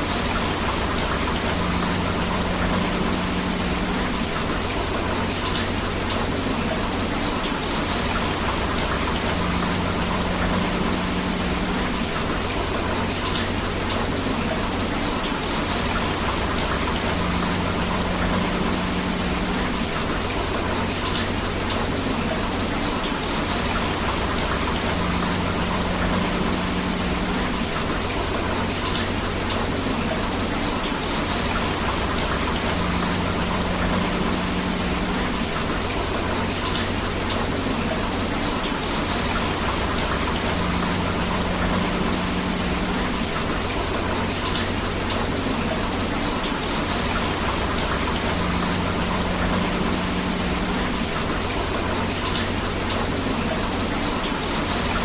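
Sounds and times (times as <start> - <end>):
flowing river: 0.0 - 55.0
steady rain: 0.0 - 55.0.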